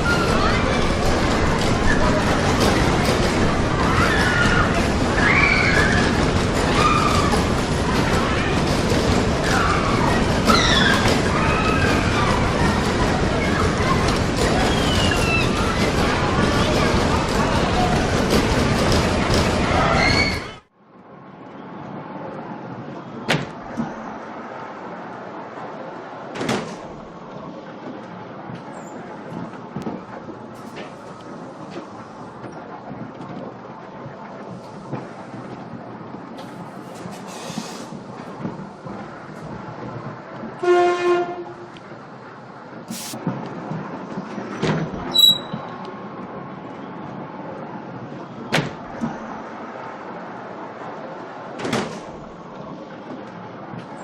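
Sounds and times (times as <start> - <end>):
train low rumble: 0.0 - 20.8, 22.0 - 54.0.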